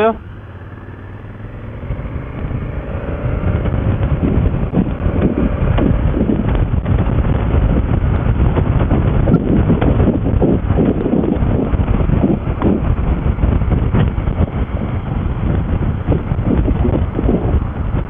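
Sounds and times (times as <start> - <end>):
faint motorcycle engine: 0.0 - 18.0
wind buffeting helmet microphone: 0.0 - 18.0.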